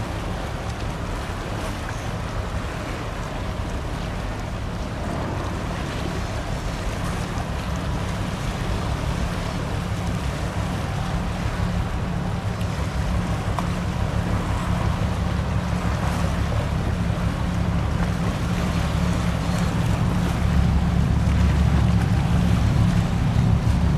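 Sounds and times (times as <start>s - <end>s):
boat engine rumble: 0.0s - 23.9s
bow wave wash: 0.0s - 23.9s.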